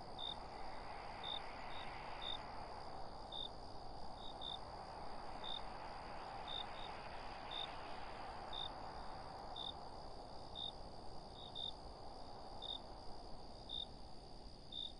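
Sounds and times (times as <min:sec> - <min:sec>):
crickets chirping: 0:00.0 - 0:14.9
high insect drone: 0:00.0 - 0:14.9
soft background hiss: 0:00.0 - 0:14.9.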